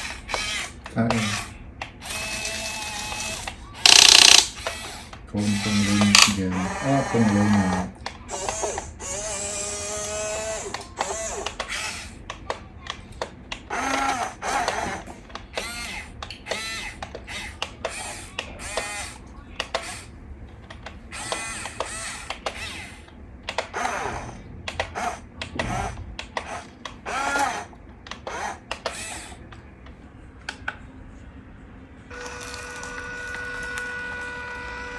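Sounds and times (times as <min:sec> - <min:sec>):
electric gear motors whining: 0:00.0 - 0:12.4, 0:13.5 - 0:20.1, 0:21.0 - 0:29.4, 0:32.1 - 0:34.9.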